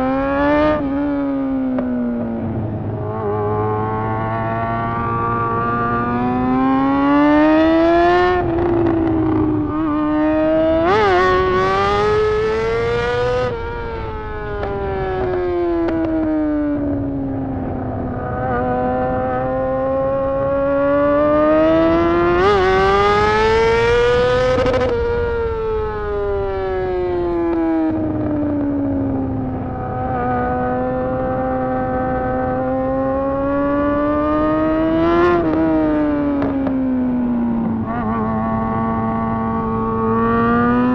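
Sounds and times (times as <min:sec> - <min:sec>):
unmuffled motorcycle engine revving: 0:00.0 - 0:40.9.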